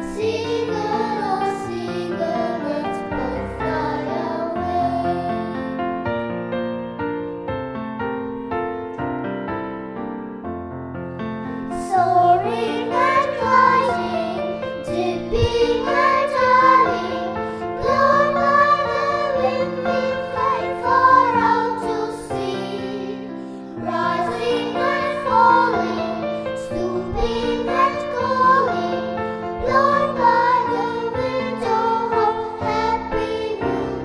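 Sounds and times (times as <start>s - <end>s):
voices singing a christian song: 0.0s - 5.8s, 11.8s - 34.0s
sustained piano accompaniment: 0.0s - 34.0s.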